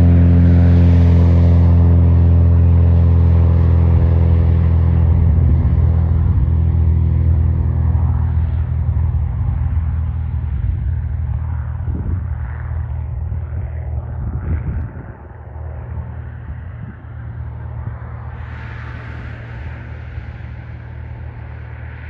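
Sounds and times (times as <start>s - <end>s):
loud low engine rumble: 0.0s - 22.0s.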